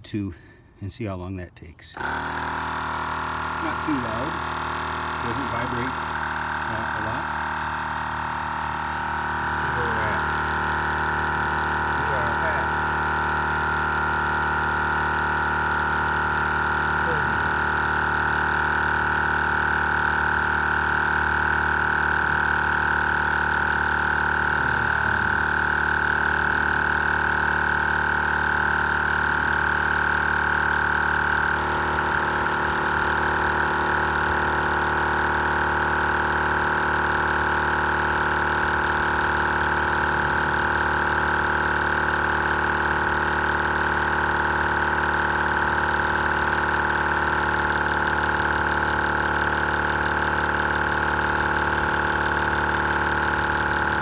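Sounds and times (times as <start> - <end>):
portable air compressor running: 1.9 - 54.0.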